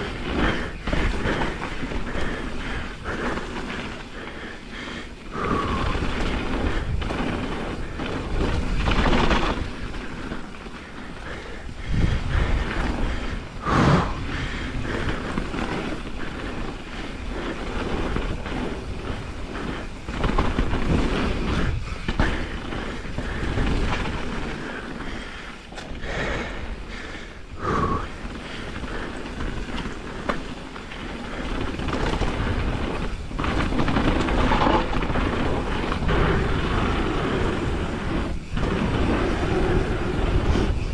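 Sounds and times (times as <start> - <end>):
bike knocks and rattles: 0.0 - 13.5, 14.2 - 27.2, 28.0 - 40.9
bike tyres rumbling on dirt: 0.0 - 40.9
wind buffeting microphone: 0.0 - 40.9.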